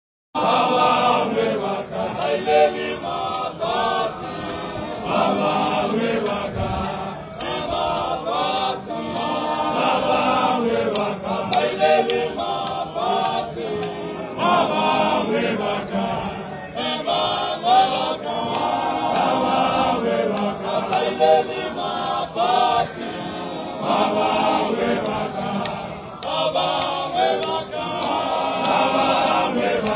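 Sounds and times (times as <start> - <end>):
male choir chanting: 0.4 - 29.9.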